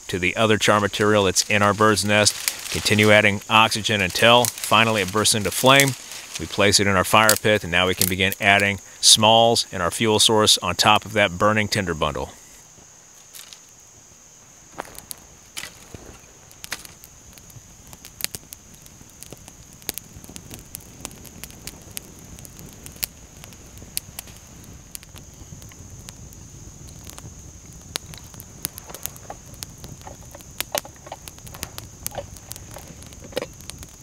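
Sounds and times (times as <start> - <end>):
rush of flame: 0.0 - 9.3, 12.3 - 34.0
crickets chirping: 0.0 - 34.0
twigs crackling and popping in fire: 0.0 - 34.0.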